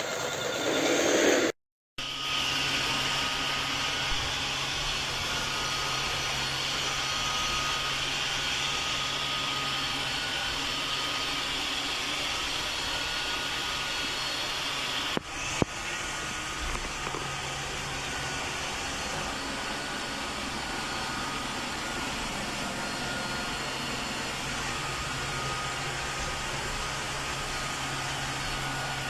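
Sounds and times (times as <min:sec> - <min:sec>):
robot vacuum cleaner whirring: 0:00.0 - 0:01.6, 0:02.2 - 0:29.0.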